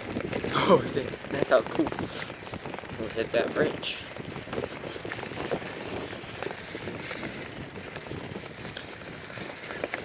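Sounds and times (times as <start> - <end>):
bicycle tyres rolling on trail: 0.0 - 10.0
small clicks and rattles: 0.0 - 10.0.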